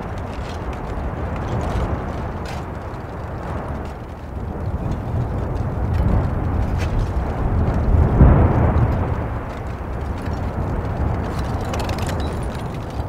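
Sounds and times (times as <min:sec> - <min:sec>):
lava fountaining rumble: 0:00.0 - 0:13.0.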